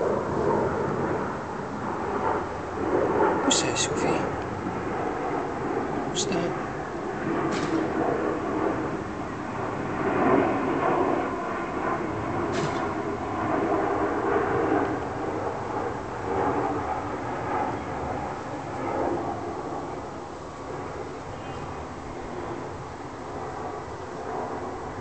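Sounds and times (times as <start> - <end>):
airplane engine rushing: 0.0 - 25.0.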